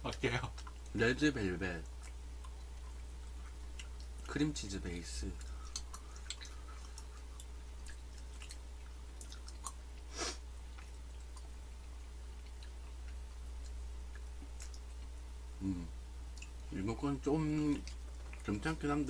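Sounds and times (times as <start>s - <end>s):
chewing with mouth clicks: 0.1s - 1.0s, 1.7s - 15.3s, 16.2s - 16.8s, 17.4s - 18.9s.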